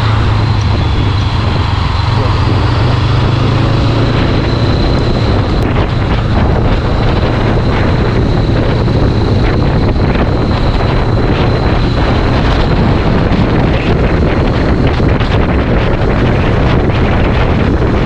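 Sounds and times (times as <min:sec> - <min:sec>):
faint high whine: 0:00.0 - 0:14.6
motorcycle engine drone: 0:00.0 - 0:18.0
wind rushing over microphone: 0:00.0 - 0:18.0.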